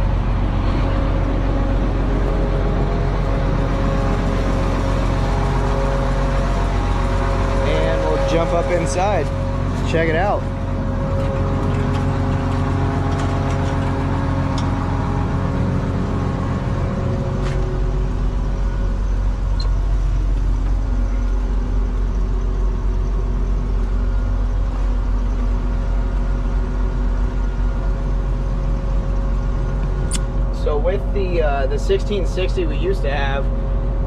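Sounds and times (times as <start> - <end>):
combine diesel engine humming: 0.0 - 34.0.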